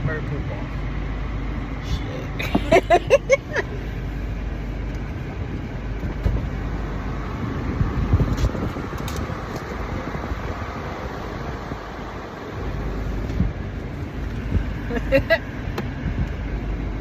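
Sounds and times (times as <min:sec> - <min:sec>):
car wash spray and machinery: 0:00.0 - 0:17.0.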